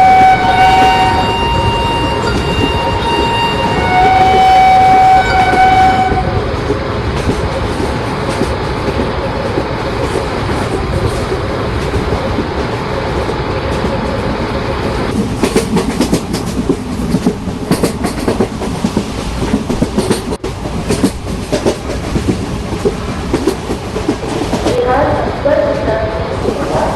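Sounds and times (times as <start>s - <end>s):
train rumbling past: 0.0s - 26.9s.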